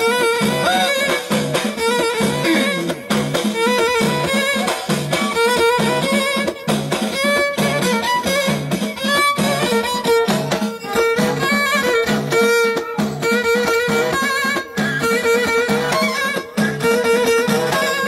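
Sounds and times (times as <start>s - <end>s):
frame drum beat: 0.0s - 18.0s
violin melody: 0.0s - 18.0s.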